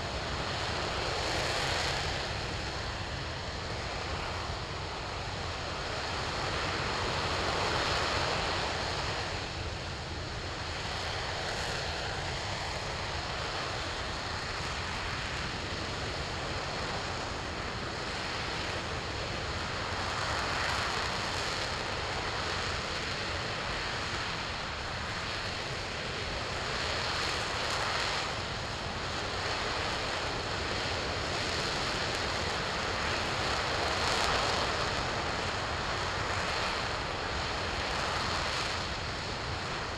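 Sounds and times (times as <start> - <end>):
rocket engine roaring: 0.1 - 39.9.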